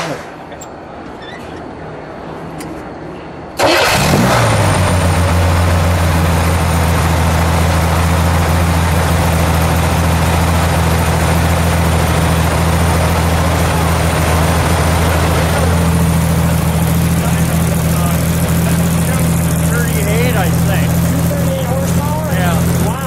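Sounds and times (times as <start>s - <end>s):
car engine starting and idling: 3.6s - 23.0s.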